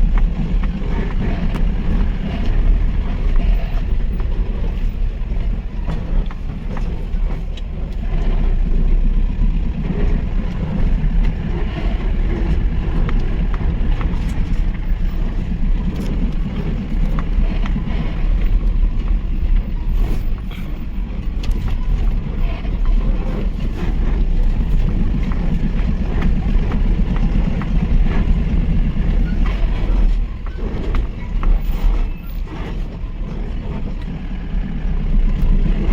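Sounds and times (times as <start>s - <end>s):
pickup truck engine under load: 0.0s - 35.9s.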